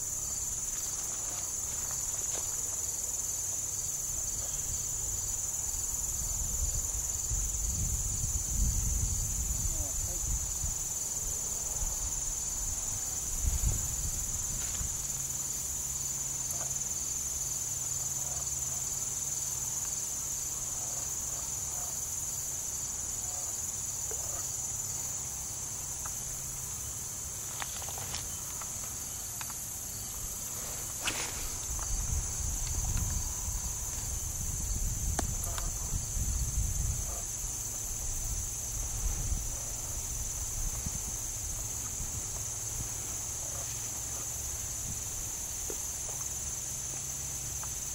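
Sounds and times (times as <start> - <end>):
insect chorus trilling: 0.0 - 47.9.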